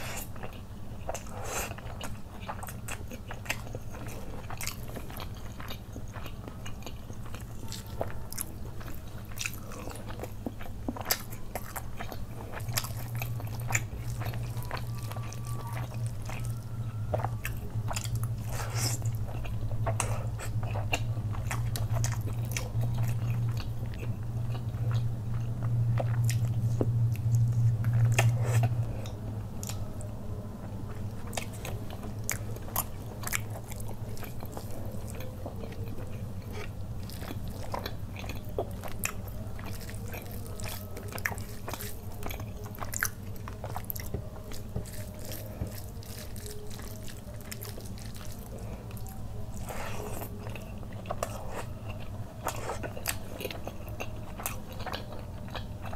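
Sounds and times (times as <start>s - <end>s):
chewing mouth sounds: 0.0s - 29.9s, 30.6s - 55.9s
steady low hum: 0.0s - 55.9s.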